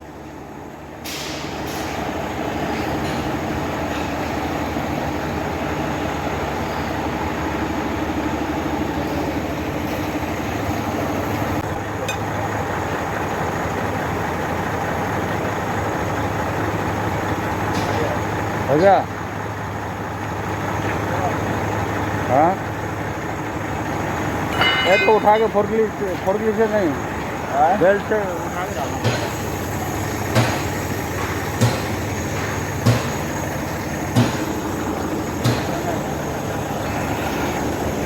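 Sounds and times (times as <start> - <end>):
heavy machinery humming: 0.0 - 38.0.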